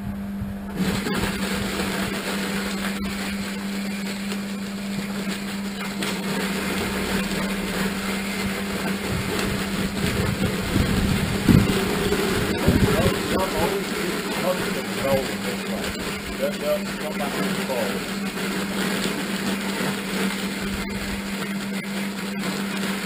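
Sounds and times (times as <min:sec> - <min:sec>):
machine motor humming: 0:00.0 - 0:23.0.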